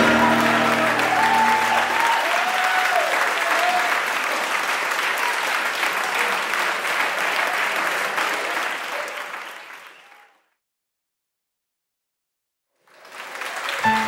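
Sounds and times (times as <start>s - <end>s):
small group applauding: 0.0s - 10.6s, 12.7s - 14.0s.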